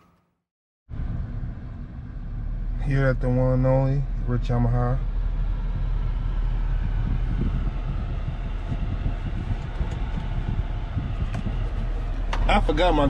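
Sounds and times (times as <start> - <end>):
car rumbling from inside cabin: 0.9 - 13.0.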